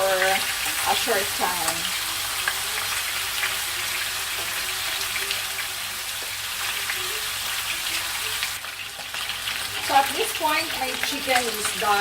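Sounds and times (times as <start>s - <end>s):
chicken sizzling in oil: 0.0s - 12.0s
crackles and pops of frying: 0.0s - 12.0s.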